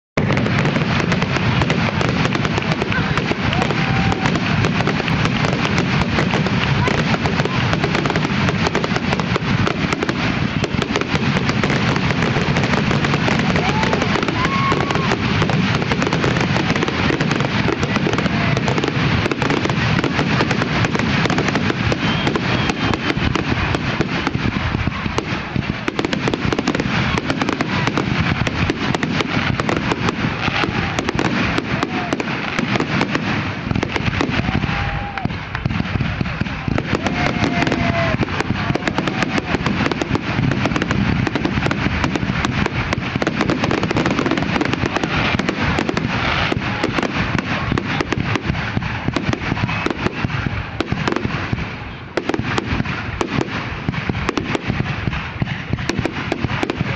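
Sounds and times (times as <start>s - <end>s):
fireworks bangs and crackle: 0.0s - 56.9s.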